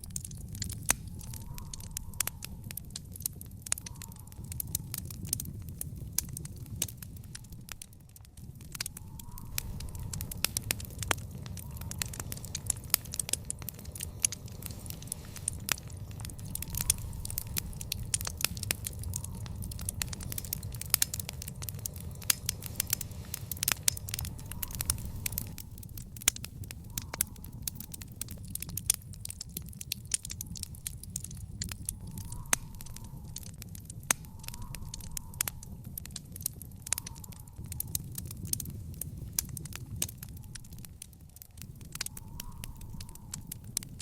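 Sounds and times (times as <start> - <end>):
fire crackling and popping: 0.0 - 44.0
low rumble of flames: 0.0 - 44.0.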